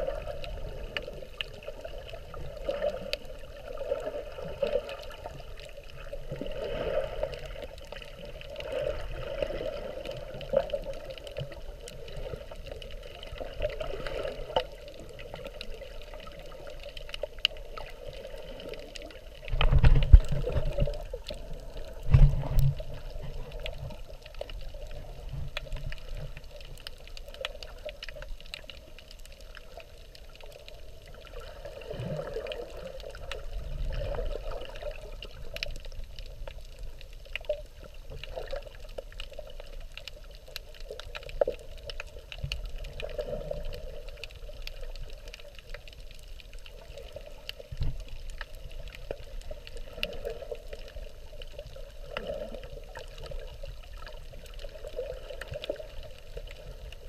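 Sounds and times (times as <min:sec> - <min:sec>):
low water surges: 0:00.0 - 0:57.0
muffled underwater water wash: 0:00.0 - 0:57.0.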